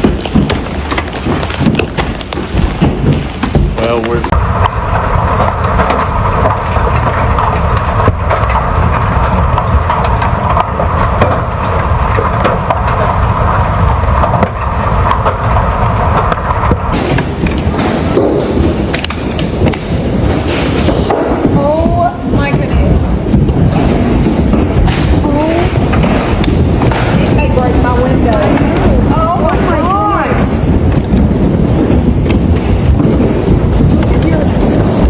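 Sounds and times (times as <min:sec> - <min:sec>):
hailstones pounding on vehicles: 0:00.0 - 0:35.0.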